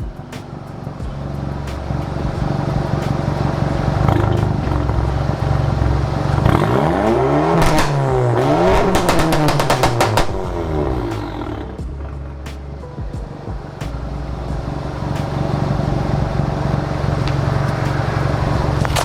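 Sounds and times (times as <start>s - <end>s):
car engine revving: 0.0s - 19.0s
exhaust pops and crackles: 0.0s - 19.0s.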